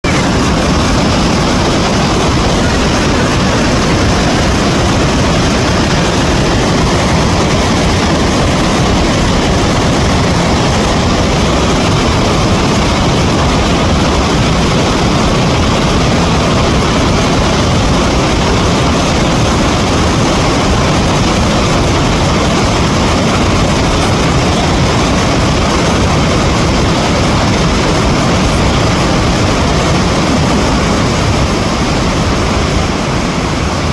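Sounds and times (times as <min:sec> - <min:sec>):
river water rushing through dam: 0:00.0 - 0:33.9.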